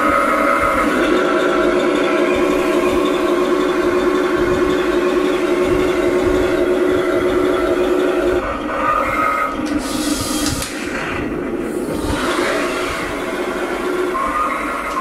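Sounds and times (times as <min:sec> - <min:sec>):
turret motor whines: 0:00.0 - 0:15.0.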